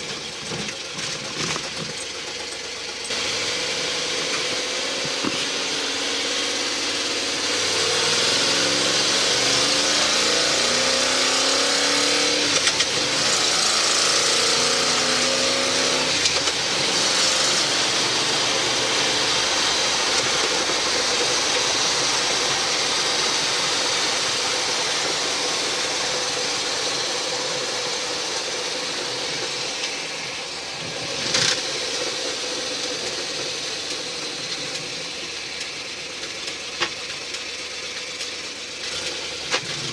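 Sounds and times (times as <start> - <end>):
pickup engine revving: 0.0 - 39.9
road noise: 0.0 - 39.9.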